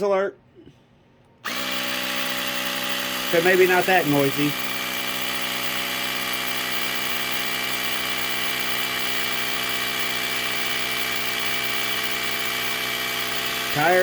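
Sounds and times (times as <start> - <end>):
air compressor running: 1.4 - 14.0.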